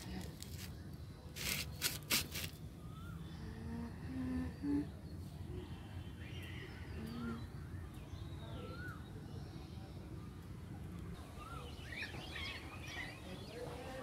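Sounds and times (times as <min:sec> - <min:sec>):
birds chirping: 0:02.6 - 0:14.0
low hum-like notes: 0:02.6 - 0:14.0.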